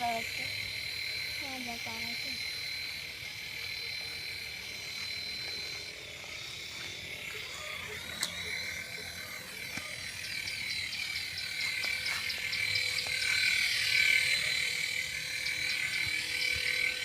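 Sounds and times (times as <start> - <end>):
toy helicopter rotors whining: 0.0 - 17.0.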